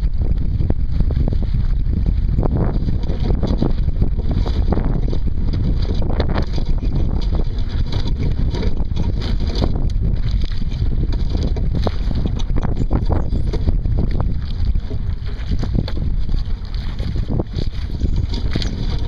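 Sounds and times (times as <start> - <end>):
water splashing against a hull: 0.0 - 19.0
wind buffeting the microphone: 0.0 - 19.0.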